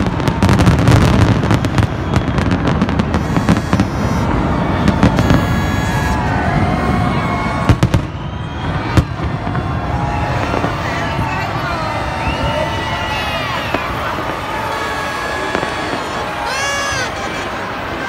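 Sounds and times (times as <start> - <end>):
firework bangs: 0.0 - 18.0
fireworks popping and crackling: 0.0 - 18.0.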